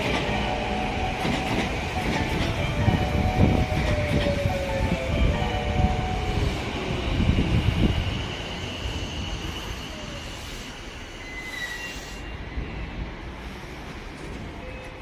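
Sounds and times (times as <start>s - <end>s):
train rumbling with wheel thumps: 0.0s - 15.0s.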